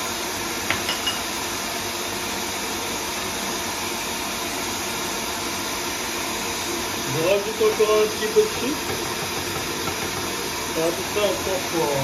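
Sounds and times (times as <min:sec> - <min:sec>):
stand mixer whisking: 0:00.1 - 0:12.0.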